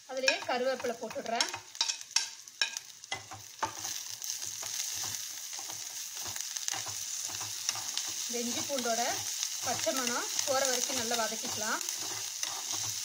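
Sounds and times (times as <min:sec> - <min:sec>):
onions frying in oil: 0:00.0 - 0:13.0
spoon scraping a metal pan: 0:00.2 - 0:13.0.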